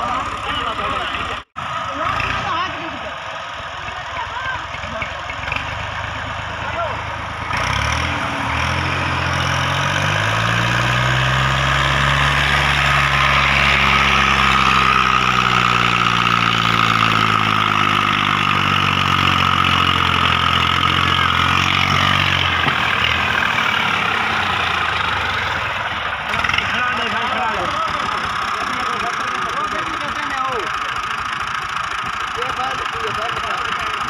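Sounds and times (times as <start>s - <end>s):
tractor diesel engine revving: 0.0s - 34.0s.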